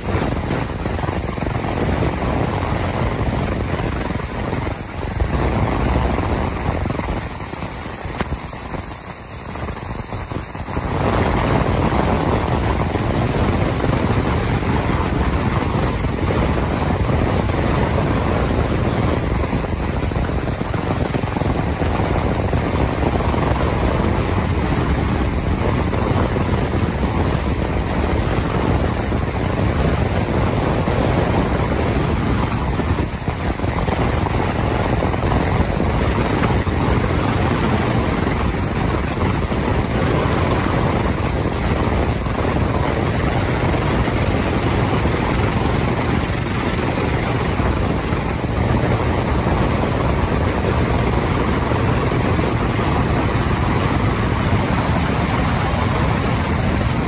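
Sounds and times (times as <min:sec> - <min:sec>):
ultrasonic cleaner rushing noise: 0:00.0 - 0:57.0.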